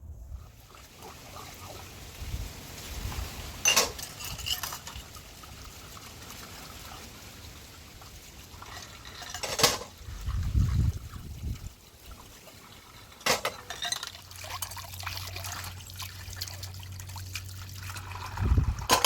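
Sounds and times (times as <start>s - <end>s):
faint liquid sounds: 0.0s - 19.0s.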